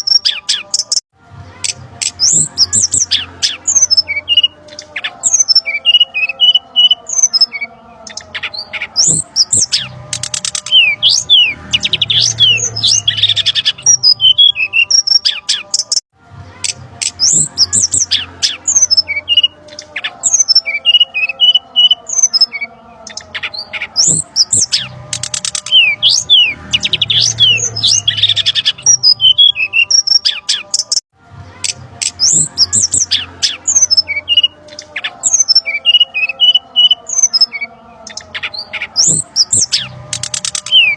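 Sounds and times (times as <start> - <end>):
bird chirps and trills: 1.6 - 16.0, 16.6 - 31.0, 31.6 - 40.9.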